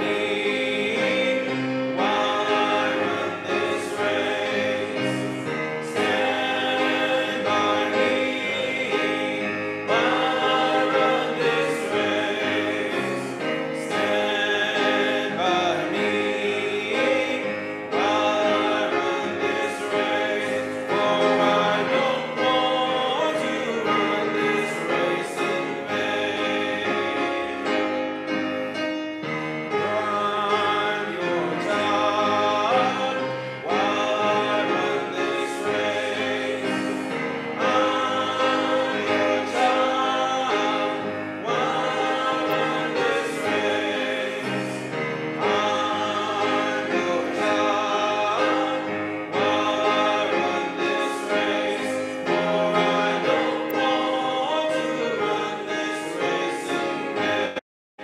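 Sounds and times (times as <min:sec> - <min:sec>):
instrumental accompaniment: 0:00.0 - 0:57.6
voices singing a hymn: 0:00.0 - 0:57.6.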